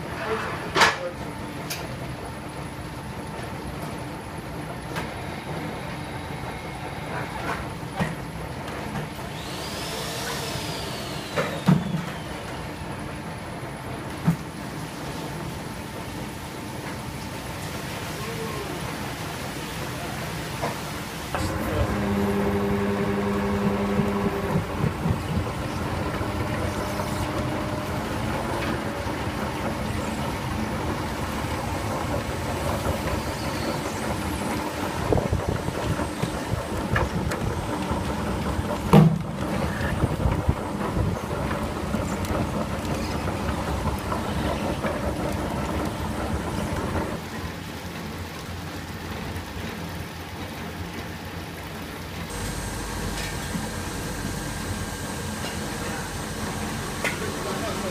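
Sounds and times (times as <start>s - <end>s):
grape crusher clatter and rumble: 0.0s - 17.6s, 21.4s - 57.9s.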